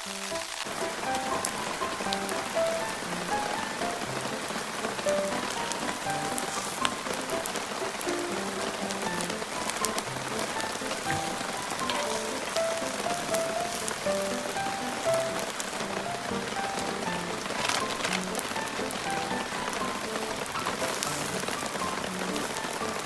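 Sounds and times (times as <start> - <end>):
heavy rain falling: 0.0 - 23.0
raindrops ticking: 0.0 - 23.0
soft background music: 0.0 - 23.0.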